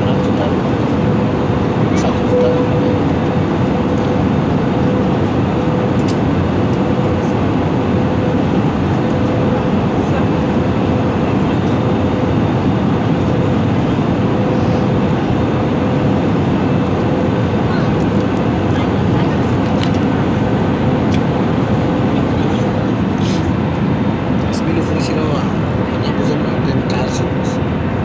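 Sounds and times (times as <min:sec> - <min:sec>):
airliner cabin engine rush: 0:00.0 - 0:28.0.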